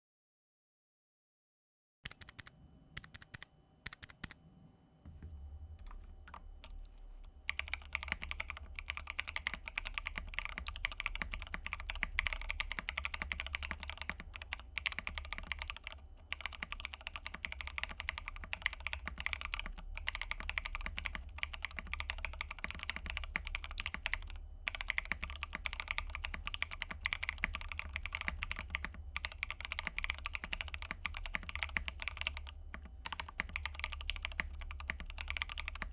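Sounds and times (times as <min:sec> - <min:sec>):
mechanical keyboard typing: 0:02.1 - 0:04.4, 0:07.5 - 0:35.9.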